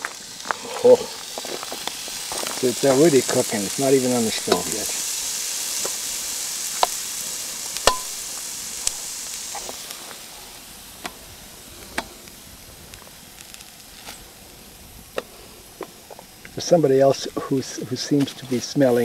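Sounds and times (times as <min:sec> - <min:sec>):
pork sizzling in a frying pan: 0:00.0 - 0:19.0.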